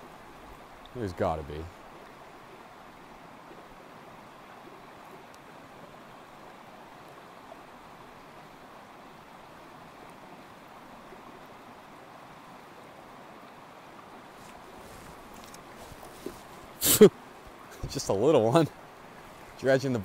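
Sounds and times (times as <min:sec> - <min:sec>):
stream flowing: 0:00.0 - 0:20.0.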